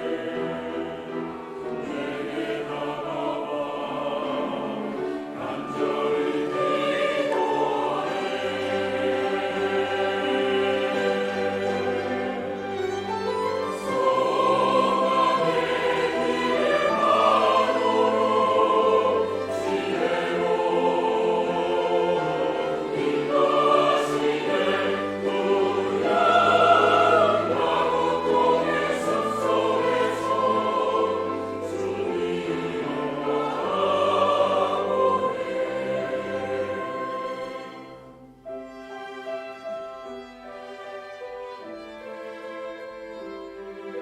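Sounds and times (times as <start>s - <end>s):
choir singing: 0.0s - 44.0s
orchestral accompaniment: 0.0s - 44.0s.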